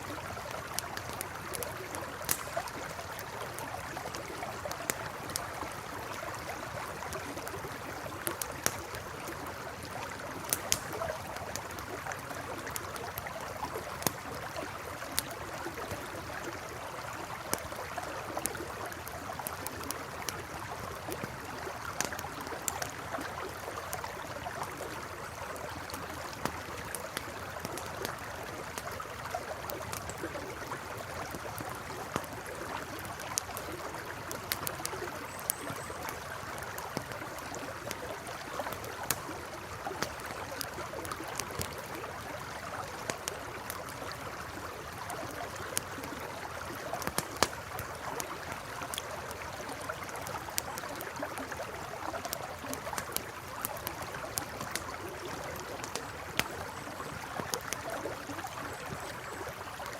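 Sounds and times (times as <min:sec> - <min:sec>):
campfire crackling and popping: 0:00.0 - 0:59.9
river flowing: 0:00.0 - 0:59.9.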